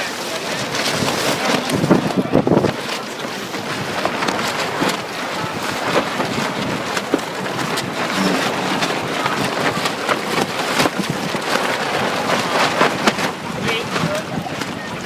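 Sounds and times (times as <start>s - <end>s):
wind buffeting microphone: 0.5s - 15.0s.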